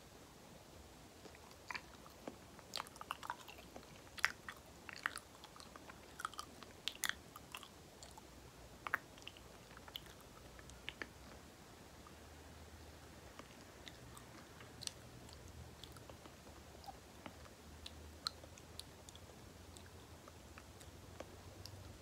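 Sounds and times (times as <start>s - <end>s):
wet chewing clicks and smacks: 1.2s - 11.4s, 13.3s - 22.0s.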